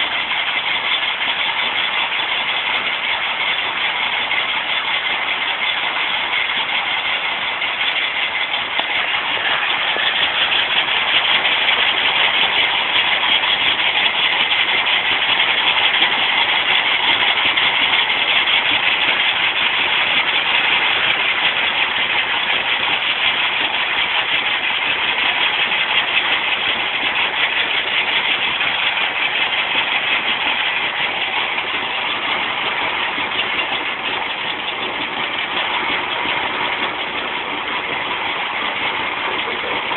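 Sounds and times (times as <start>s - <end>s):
stone crusher machine running: 0.0s - 39.9s.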